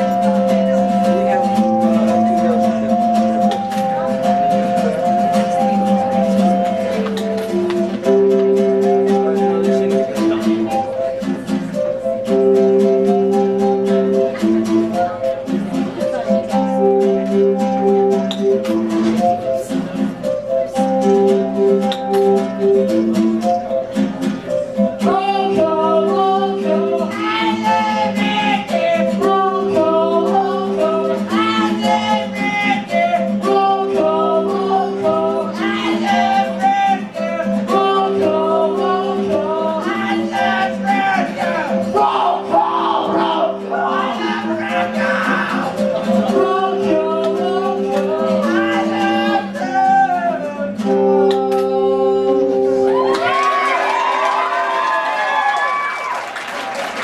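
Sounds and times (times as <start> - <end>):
person singing: 0.0 - 53.8
held guitar chords: 0.0 - 54.9.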